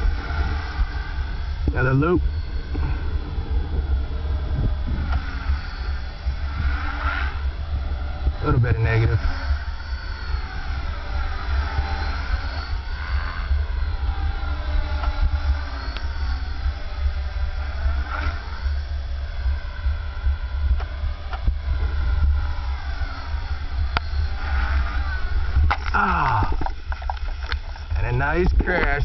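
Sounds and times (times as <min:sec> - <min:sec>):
rc helicopter motor whine: 0:00.0 - 0:29.0
wind buffeting microphone: 0:00.0 - 0:29.0.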